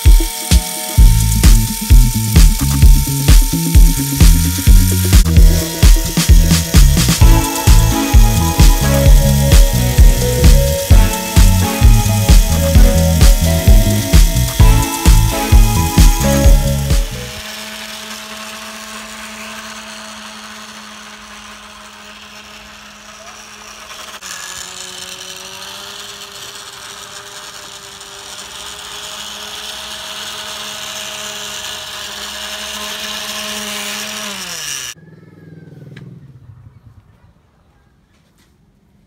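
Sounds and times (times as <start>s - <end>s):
small electric motor whining: 0.0s - 35.0s.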